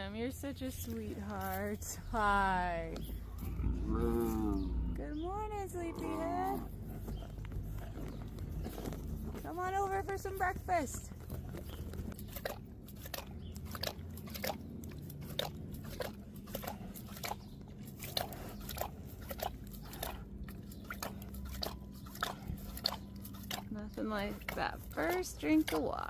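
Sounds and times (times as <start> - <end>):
big cat lapping water: 3.0 - 26.0.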